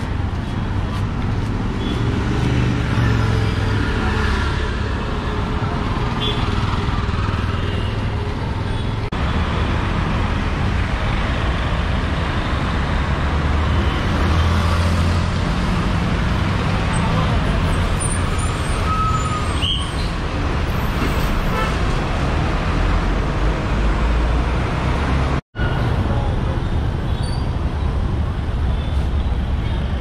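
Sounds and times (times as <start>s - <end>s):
passing motor vehicles: 0.0s - 18.9s, 20.1s - 30.0s.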